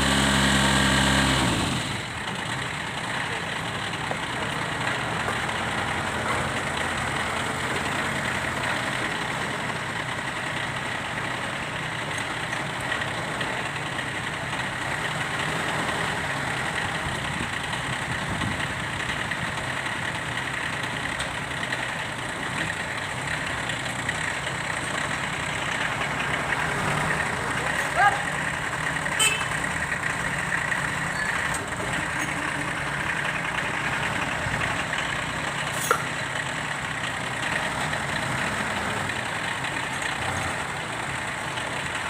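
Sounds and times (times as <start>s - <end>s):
tractor diesel engine idling: 0.0s - 42.0s.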